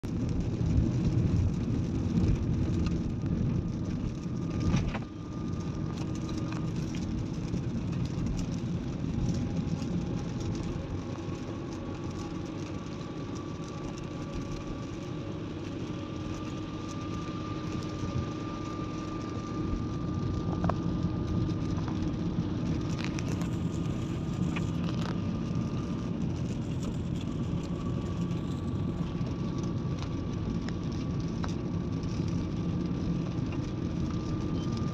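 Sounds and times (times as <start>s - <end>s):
car road noise on wet road: 0.0s - 34.9s.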